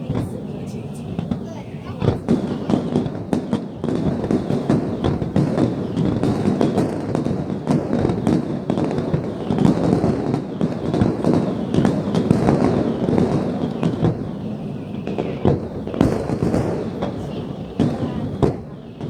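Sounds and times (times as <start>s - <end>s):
fireworks booming and cracking: 0.0s - 19.0s.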